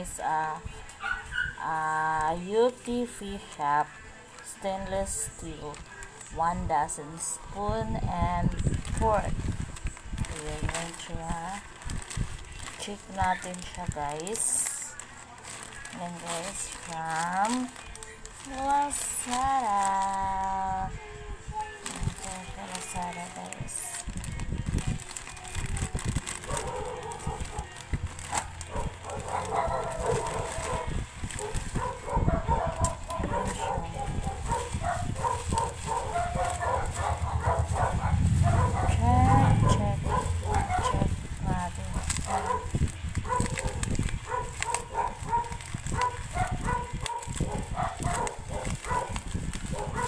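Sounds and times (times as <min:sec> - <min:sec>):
plastic pouch and bubble wrap rustling: 0:00.0 - 0:50.0.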